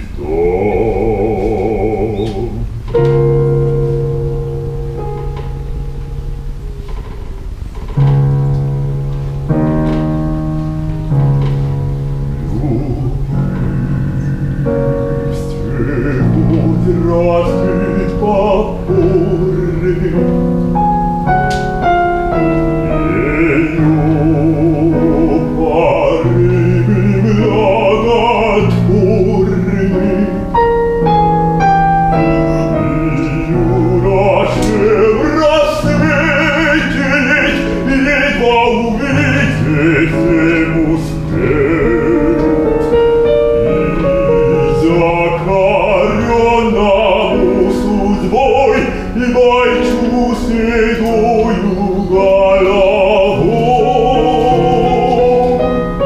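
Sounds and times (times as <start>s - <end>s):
man singing opera: 0.0s - 4.2s, 11.3s - 56.0s
piano accompaniment: 0.0s - 56.0s.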